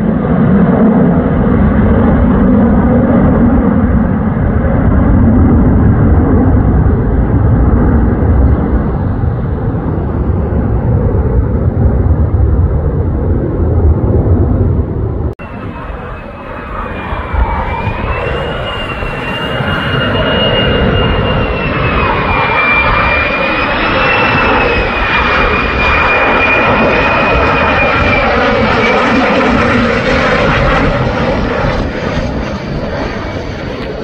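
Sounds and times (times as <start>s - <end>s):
jet roar with high whine: 0.0s - 34.0s.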